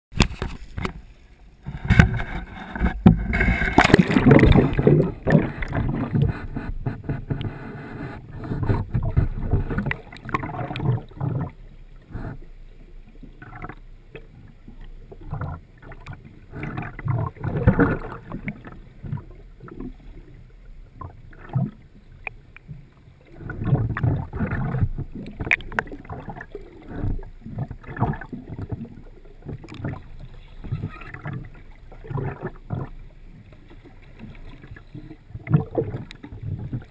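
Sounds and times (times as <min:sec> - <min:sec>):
underwater water sloshing: 0:00.1 - 0:36.9.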